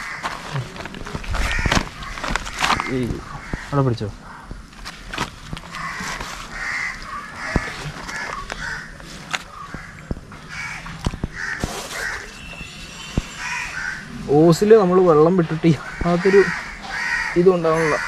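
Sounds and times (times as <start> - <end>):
crows cawing: 0.0 - 0.6, 1.3 - 4.6, 5.6 - 18.0.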